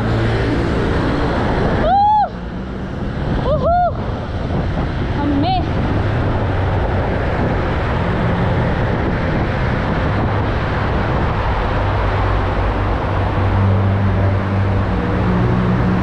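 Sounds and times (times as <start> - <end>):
tunnel traffic noise: 0.0 - 16.0.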